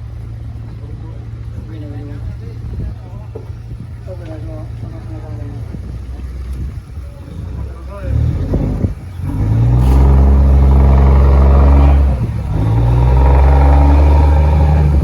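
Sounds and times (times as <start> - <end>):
fishing boat engine drone: 0.0 - 15.0.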